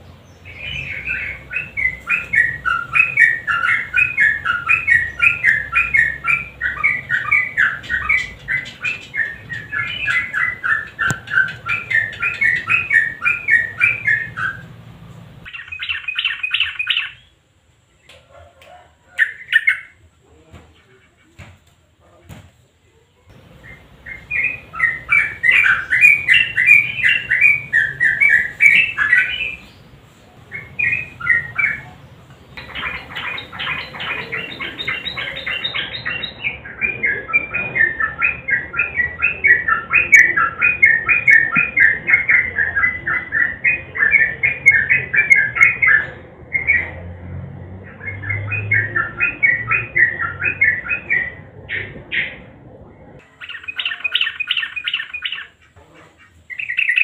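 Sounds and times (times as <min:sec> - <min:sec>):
bird chattering song: 0:00.0 - 0:18.2, 0:19.1 - 0:20.0, 0:23.3 - 0:47.0, 0:47.8 - 0:52.5, 0:53.2 - 0:57.0.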